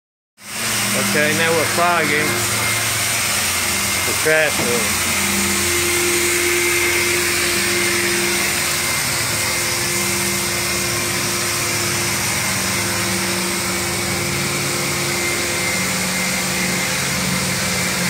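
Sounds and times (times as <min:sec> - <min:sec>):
insecticide fogger whirring: 0:00.4 - 0:18.0.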